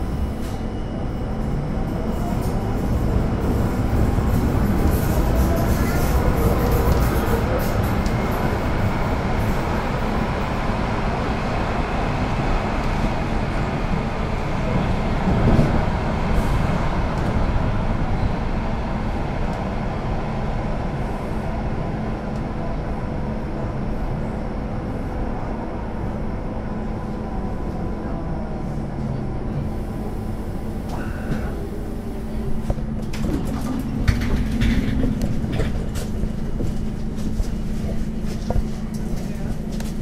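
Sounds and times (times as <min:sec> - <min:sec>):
rumble of train wheels: 0:00.0 - 0:40.0.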